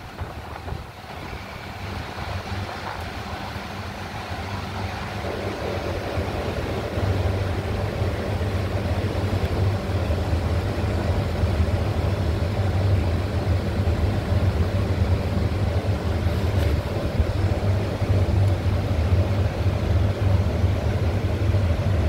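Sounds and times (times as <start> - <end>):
low machine hum: 0.0 - 22.0
rumbling noisy wash: 0.0 - 22.0.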